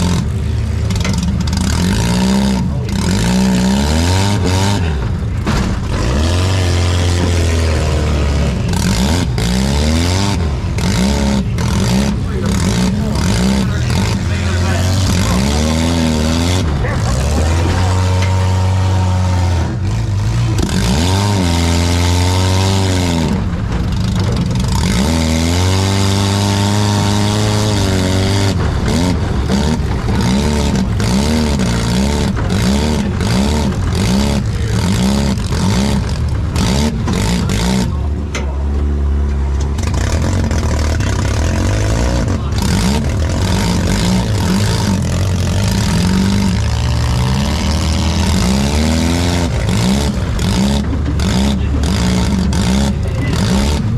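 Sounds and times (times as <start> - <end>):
car engines revving: 0.0 - 53.9
cars crashing with clanks: 0.0 - 53.9.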